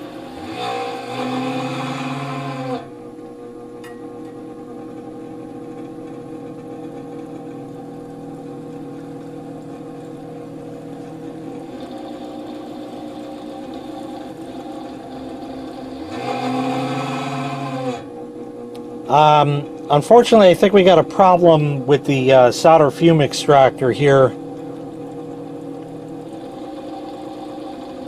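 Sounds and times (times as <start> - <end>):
extractor fan humming: 0.0 - 28.0.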